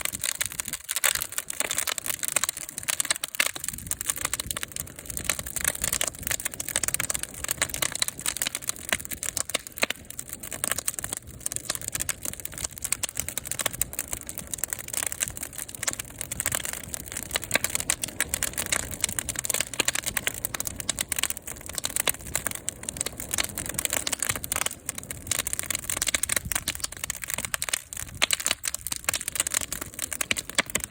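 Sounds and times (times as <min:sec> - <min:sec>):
fire crackling: 0:00.0 - 0:30.9.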